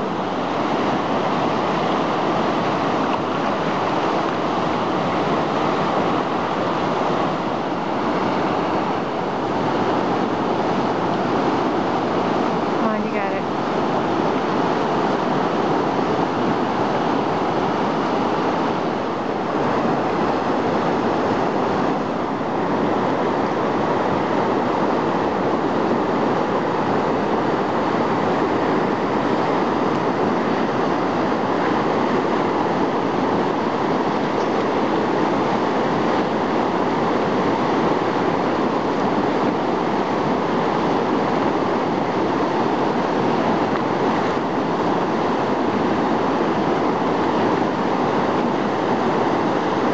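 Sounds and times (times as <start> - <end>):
whitewater rushing: 0.0 - 49.9.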